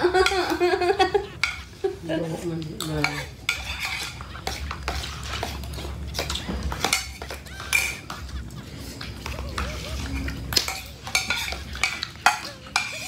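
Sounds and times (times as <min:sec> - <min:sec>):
spoons scraping plastic bowls: 0:00.0 - 0:13.0.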